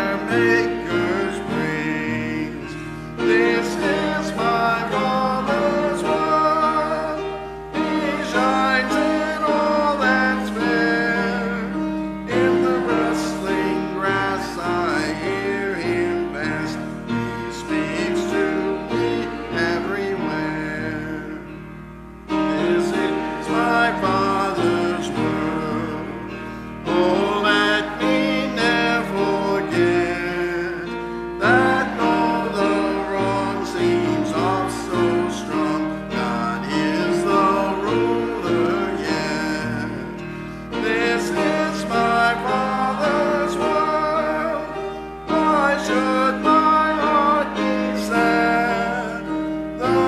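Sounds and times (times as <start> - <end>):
hymn music with sustained chords: 0.0 - 50.0.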